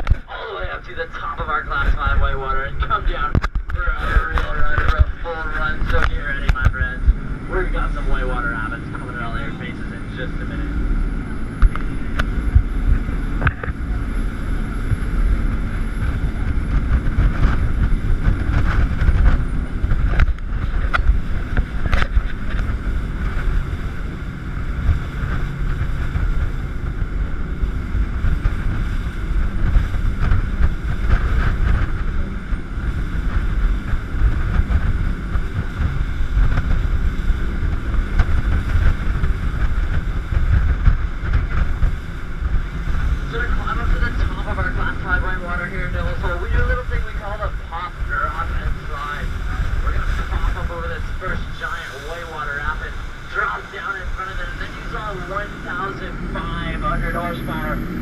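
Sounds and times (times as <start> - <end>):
boat engine rumble: 0.0 - 58.0
water splashing against hull: 0.0 - 58.0
wind buffeting microphone: 0.0 - 58.0.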